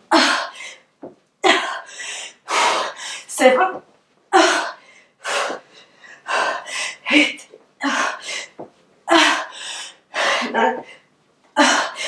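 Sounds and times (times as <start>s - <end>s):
woman breathing heavily: 0.0s - 3.4s, 4.3s - 12.0s.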